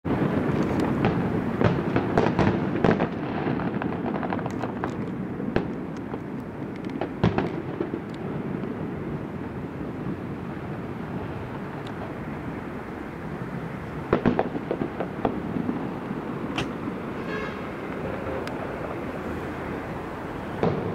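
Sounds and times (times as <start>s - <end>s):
fireworks bangs and crackles: 0.0s - 20.9s
faint fireworks booms: 0.1s - 20.9s.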